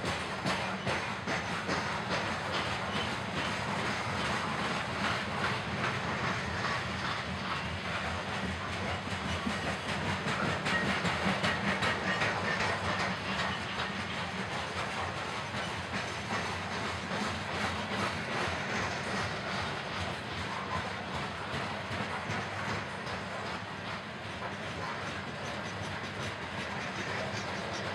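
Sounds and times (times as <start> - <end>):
steel wheels clattering on rails: 0.0 - 27.9
train rumble and hiss: 0.0 - 27.9.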